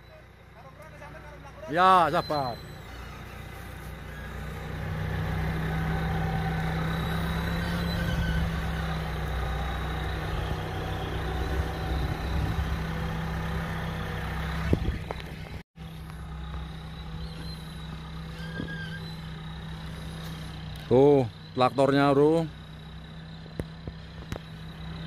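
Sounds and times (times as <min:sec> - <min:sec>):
diesel engine droning under load: 0:00.0 - 0:25.0.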